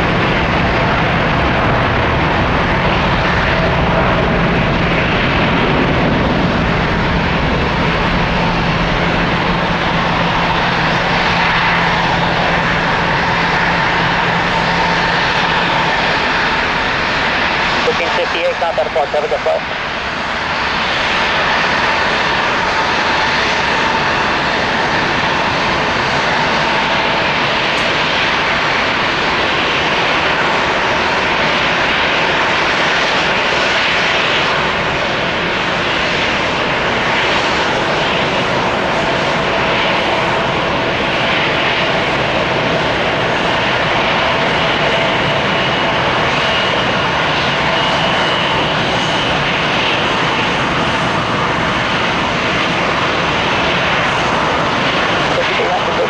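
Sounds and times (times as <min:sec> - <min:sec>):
jet engines roaring at takeoff: 0:00.0 - 0:56.0.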